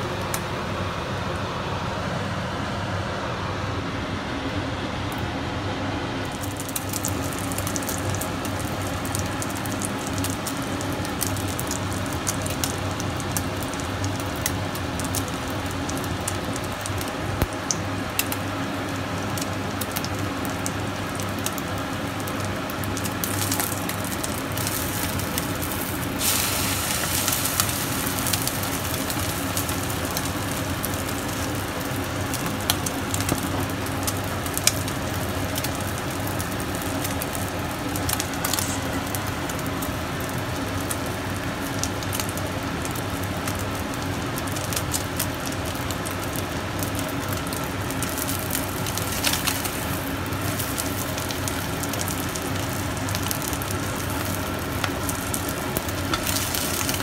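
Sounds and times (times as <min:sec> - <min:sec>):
steady hum: 0:00.0 - 0:57.0
omelette sizzling in oil: 0:06.2 - 0:57.0.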